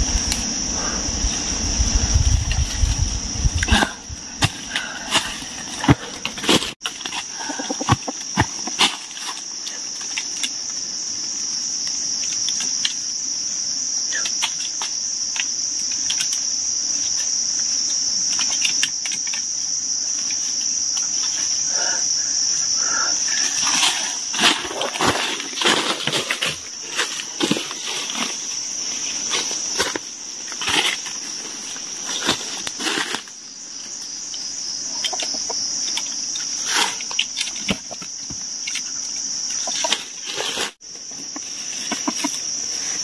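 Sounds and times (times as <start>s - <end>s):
rustling in dry leaves: 0.0s - 11.1s, 15.9s - 43.0s
shrill insect chorus: 0.0s - 43.0s.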